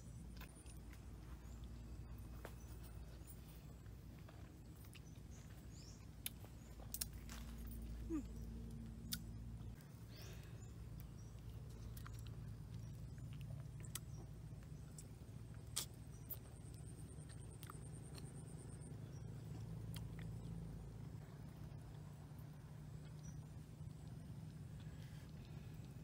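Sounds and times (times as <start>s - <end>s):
low steady hum: 0.0s - 26.0s
mouth chewing and smacking: 4.1s - 26.0s.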